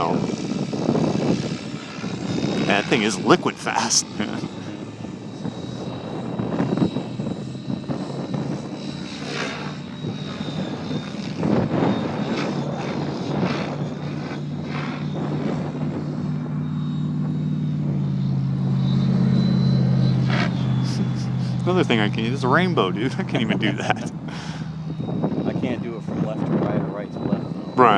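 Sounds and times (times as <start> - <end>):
helicopter rotor hum: 0.0 - 27.9
high motor whine: 0.0 - 27.9.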